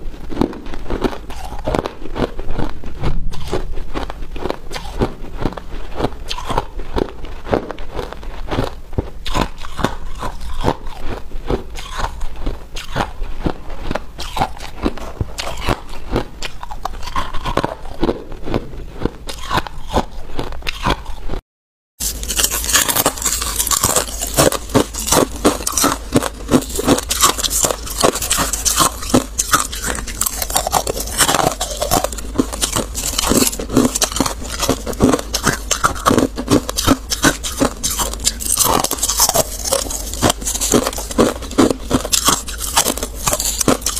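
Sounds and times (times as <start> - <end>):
ice being chewed: 0.0 - 21.4, 22.0 - 43.9.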